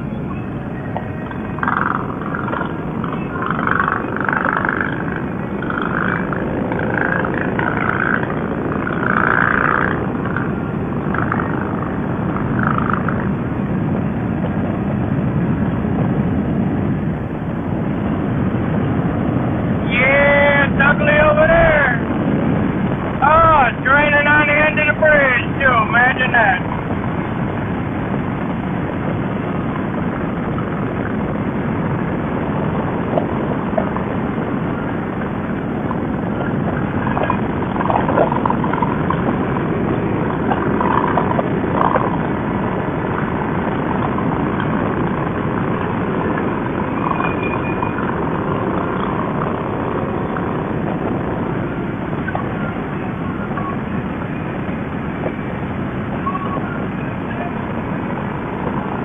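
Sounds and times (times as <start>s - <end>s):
motorcycle engine cruising: 0.0s - 19.9s, 26.6s - 59.0s
wind and road noise: 0.0s - 59.0s.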